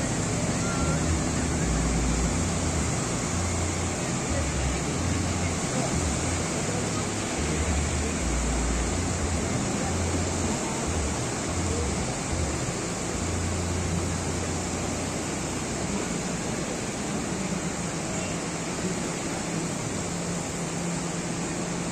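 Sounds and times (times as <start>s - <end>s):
waves breaking on shore: 0.0s - 21.9s.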